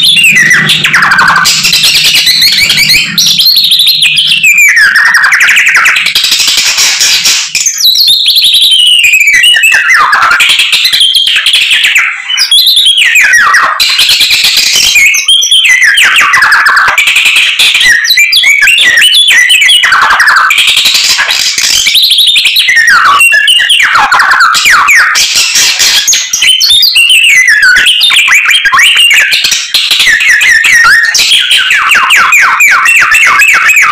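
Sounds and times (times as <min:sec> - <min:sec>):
songbird whistles and trills: 0:00.0 - 0:33.9.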